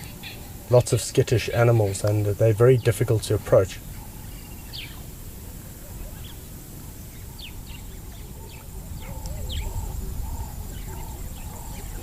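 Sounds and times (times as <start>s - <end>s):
low wavering bird calls: 0.0s - 2.2s, 2.8s - 12.0s
birds chirping: 0.0s - 12.0s.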